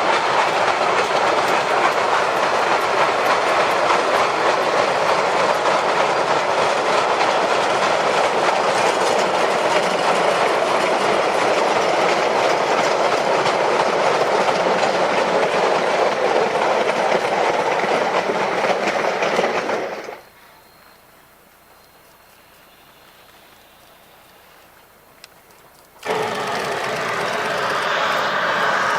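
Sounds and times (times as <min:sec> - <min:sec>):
train wheels clicking over joints: 0:00.0 - 0:20.4, 0:21.5 - 0:28.9.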